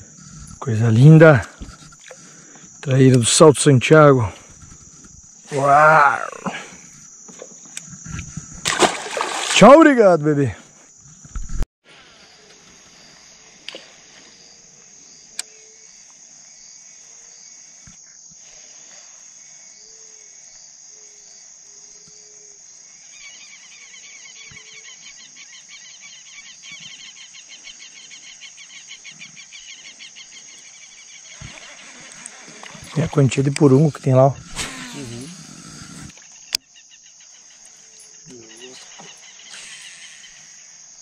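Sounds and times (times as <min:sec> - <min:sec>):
pulsing insect trill: 0:00.0 - 0:11.4, 0:12.1 - 0:41.0
high insect buzz: 0:00.0 - 0:11.6, 0:12.3 - 0:41.0.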